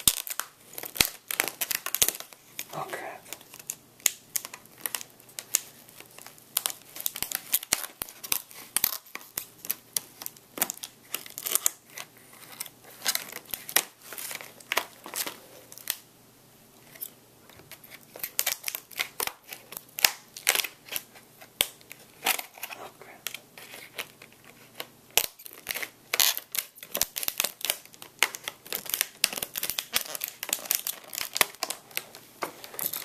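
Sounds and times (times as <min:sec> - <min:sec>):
plastic packaging crackling: 0:00.0 - 0:16.0, 0:16.9 - 0:33.0.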